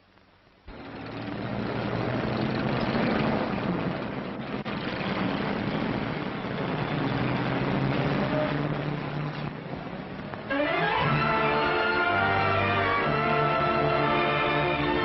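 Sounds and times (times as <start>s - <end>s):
propeller aircraft engines droning: 0.7s - 15.0s.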